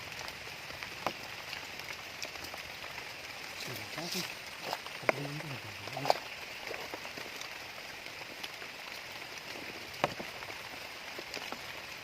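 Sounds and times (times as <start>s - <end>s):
rain hissing and pattering: 0.0s - 12.0s.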